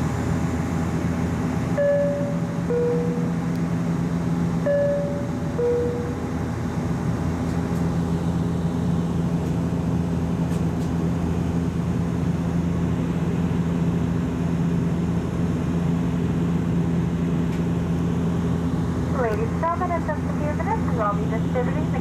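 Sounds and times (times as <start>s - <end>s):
steady low hum: 0.0s - 22.0s
turboprop engines droning: 0.0s - 22.0s.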